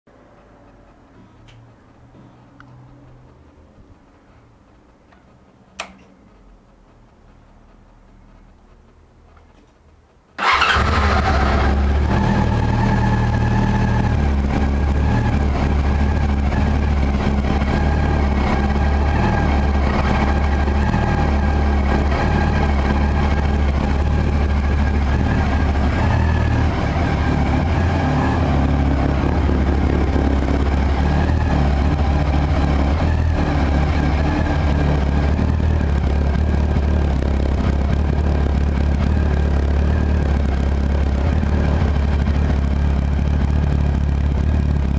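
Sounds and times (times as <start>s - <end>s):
motorcycle engine idling: 1.1s - 44.9s.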